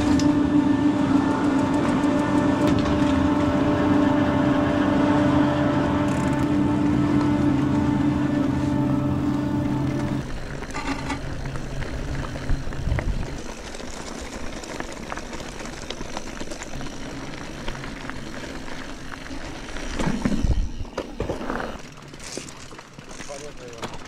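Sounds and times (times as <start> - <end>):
low rumble and clatter: 0.0 - 24.0
machine hum: 0.0 - 24.0.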